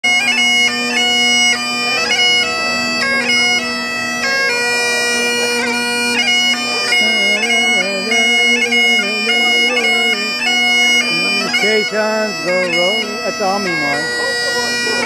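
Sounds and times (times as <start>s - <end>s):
bagpipe playing a tune: 0.0s - 15.0s.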